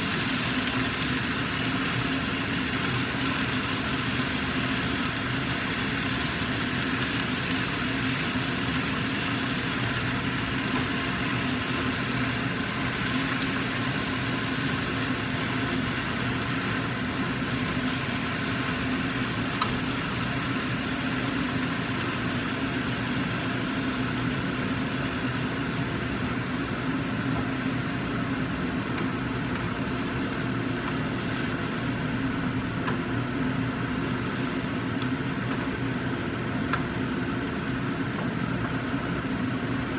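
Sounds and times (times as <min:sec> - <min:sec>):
range hood fan humming: 0:00.0 - 0:39.9
vegetables sizzling in pan: 0:00.0 - 0:39.9.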